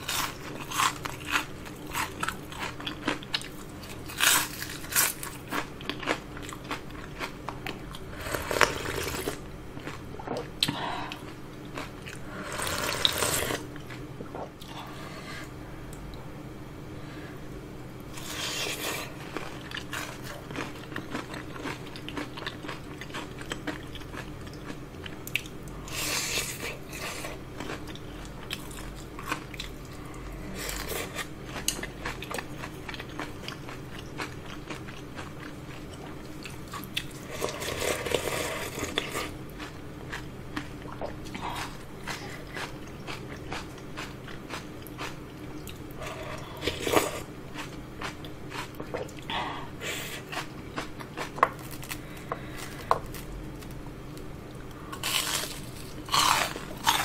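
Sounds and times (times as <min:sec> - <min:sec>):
crunchy chewing of fried shrimp: 0:00.0 - 0:15.6, 0:18.0 - 0:57.0.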